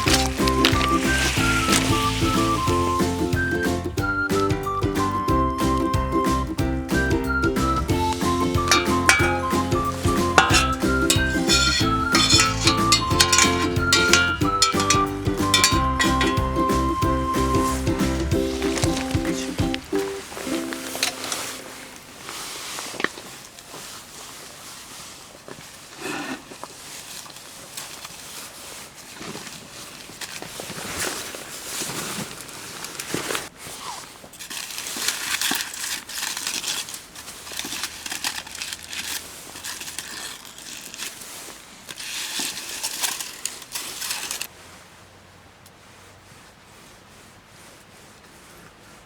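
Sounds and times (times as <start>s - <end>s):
crinkling and rustling: 0.0s - 49.0s.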